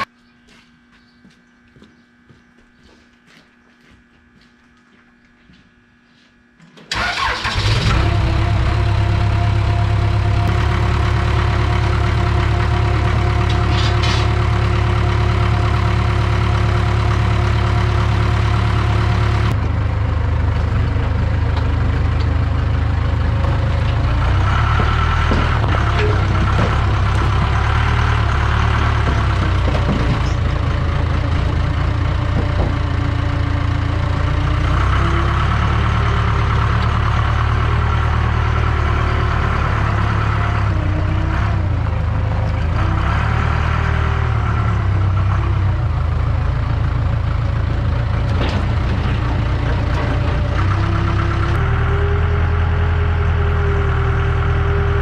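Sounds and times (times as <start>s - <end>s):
diesel engine running: 6.9s - 55.0s.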